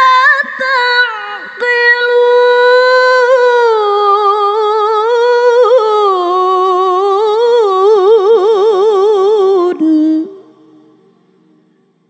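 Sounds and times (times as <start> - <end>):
woman reciting melodically: 0.0 - 11.5.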